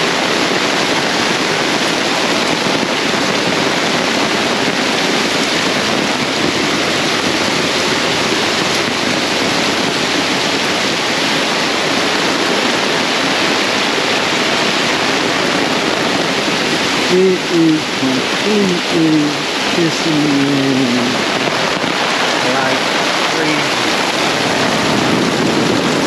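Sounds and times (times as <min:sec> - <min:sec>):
torrential rain pouring: 0:00.0 - 0:26.0.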